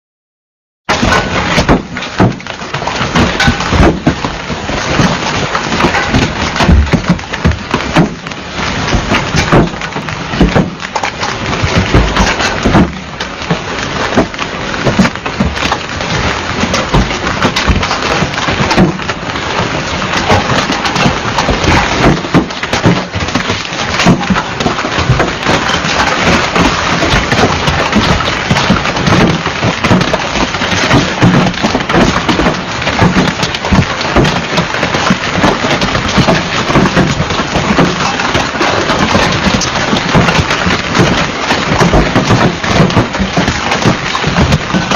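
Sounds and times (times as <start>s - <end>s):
hail rattling on car: 0.9s - 44.9s
heavy rain rushing: 0.9s - 44.9s
low thuds: 0.9s - 44.9s.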